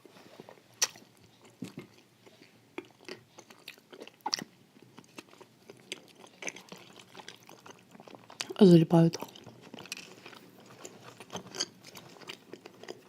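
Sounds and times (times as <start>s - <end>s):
person chewing crunchy wafers: 0.1s - 13.0s.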